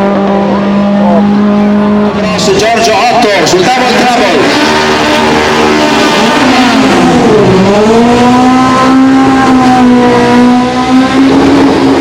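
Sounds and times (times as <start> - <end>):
racing car engine revving high: 0.0 - 12.0.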